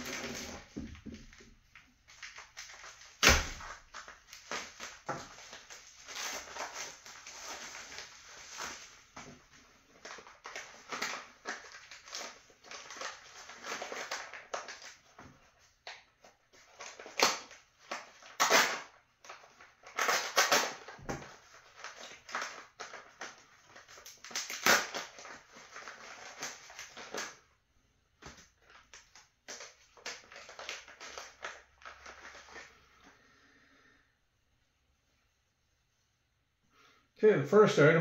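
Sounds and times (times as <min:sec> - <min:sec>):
tissue paper crinkling: 0:00.0 - 0:27.4, 0:28.5 - 0:32.9.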